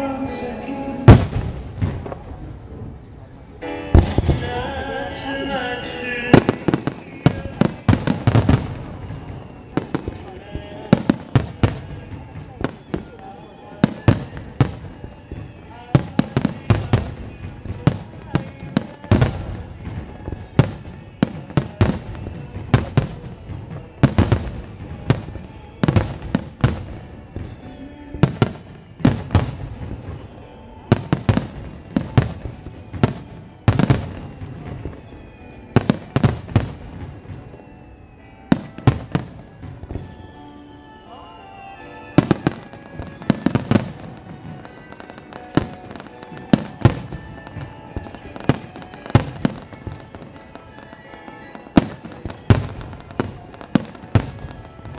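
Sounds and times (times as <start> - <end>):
music: 0.0 - 54.9
fireworks booming: 0.9 - 40.8, 41.8 - 54.9.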